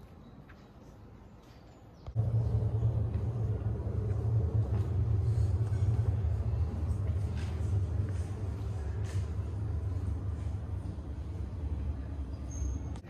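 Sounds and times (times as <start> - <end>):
low rumble: 2.1 - 13.0.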